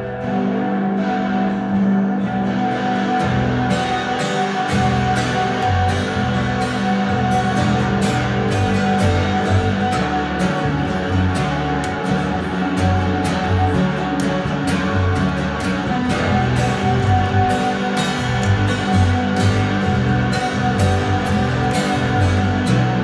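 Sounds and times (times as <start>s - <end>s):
acoustic guitar: 0.0s - 23.0s
plucked double bass: 0.0s - 23.0s.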